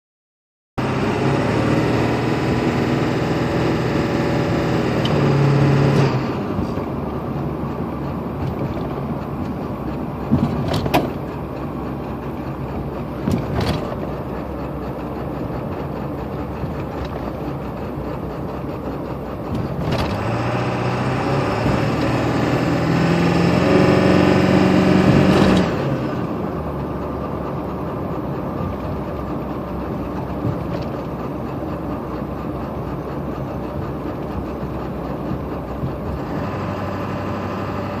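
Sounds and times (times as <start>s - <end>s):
engine idling and revving: 0.8s - 38.0s.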